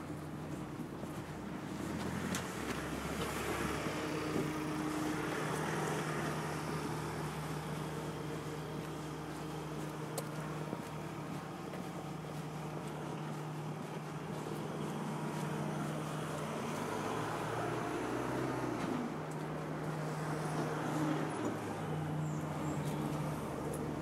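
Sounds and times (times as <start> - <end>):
passing traffic: 0.0 - 24.0
vehicle engine hum: 0.0 - 24.0.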